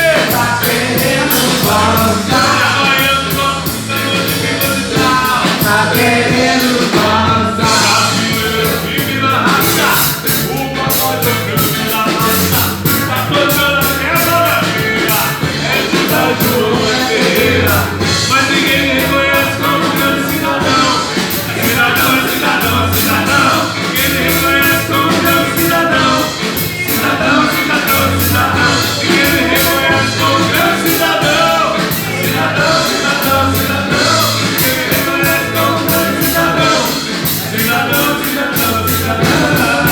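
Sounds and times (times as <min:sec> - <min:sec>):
bass guitar: 0:00.0 - 0:39.9
drum kit with cymbals: 0:00.0 - 0:39.9
live rock band playing: 0:00.0 - 0:39.9
person singing: 0:00.0 - 0:39.9.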